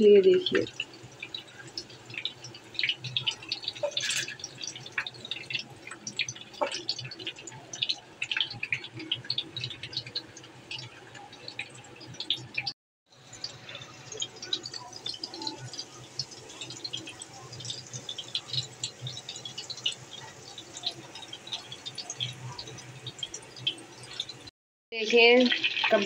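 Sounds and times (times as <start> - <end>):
oil crackling and spitting in pan: 0.0 - 26.0.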